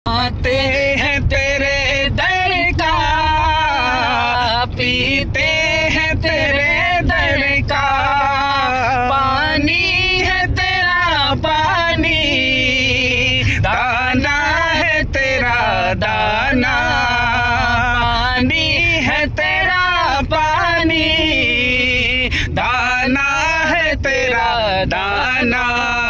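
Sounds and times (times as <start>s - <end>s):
low car rumble: 0.1s - 26.0s
two men singing unaccompanied: 0.1s - 26.0s.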